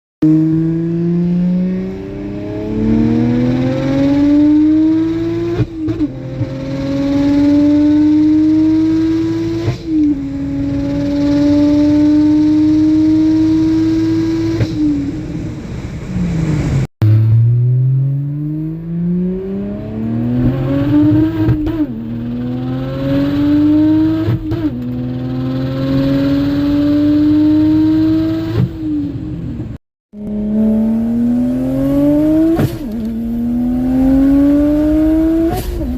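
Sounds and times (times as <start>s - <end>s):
turbocharged car engine revving: 0.2s - 15.5s, 16.1s - 29.2s, 30.1s - 35.9s.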